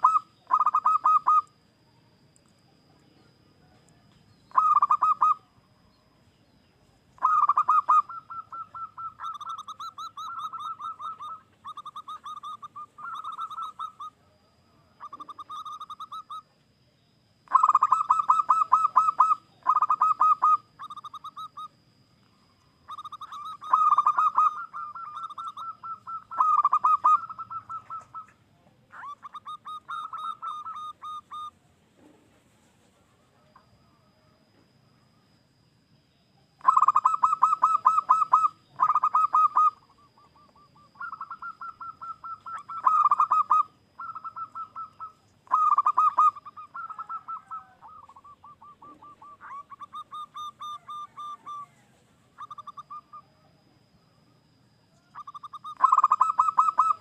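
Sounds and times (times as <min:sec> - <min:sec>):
dove cooing: 0:00.0 - 0:01.5, 0:02.7 - 0:05.6, 0:07.2 - 0:16.5, 0:17.4 - 0:21.8, 0:22.8 - 0:35.1, 0:36.6 - 0:54.2, 0:54.9 - 0:57.0.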